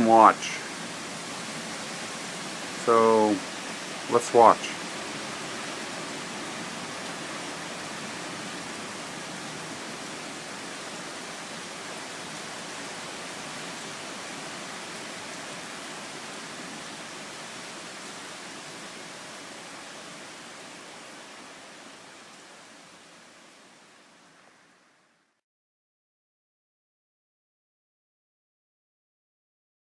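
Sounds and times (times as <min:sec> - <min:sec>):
heavy rain pouring: 0:00.0 - 0:25.2.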